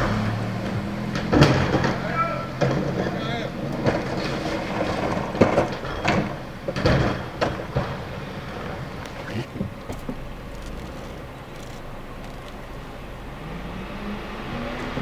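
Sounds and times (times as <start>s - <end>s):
bangs and clatters: 0.0s - 12.7s
garbage truck engine running: 0.0s - 15.0s.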